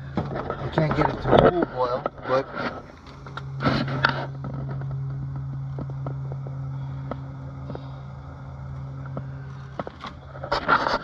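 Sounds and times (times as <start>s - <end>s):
camp stove burning hum: 0.0s - 11.0s.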